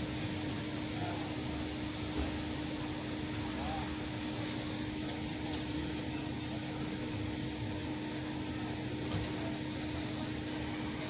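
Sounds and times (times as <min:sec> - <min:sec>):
mechanical hum: 0:00.0 - 0:11.0
traffic rumble: 0:00.0 - 0:11.0.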